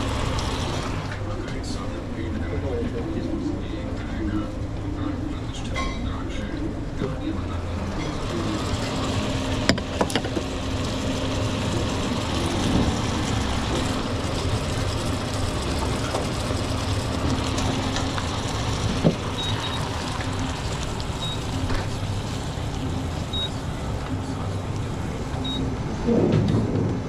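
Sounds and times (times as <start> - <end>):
steady roar with low hum: 0.0 - 5.7, 6.3 - 27.0.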